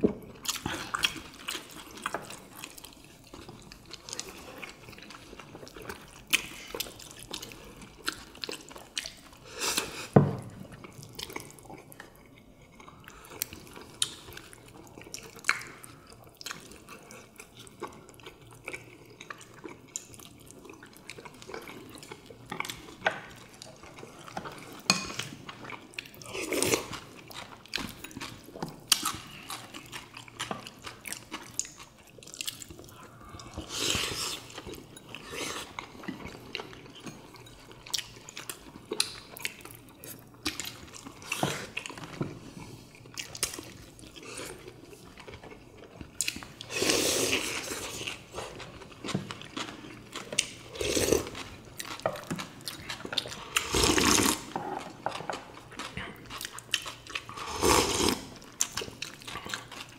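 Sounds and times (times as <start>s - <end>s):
wet chewing and slurping: 0.4s - 59.9s.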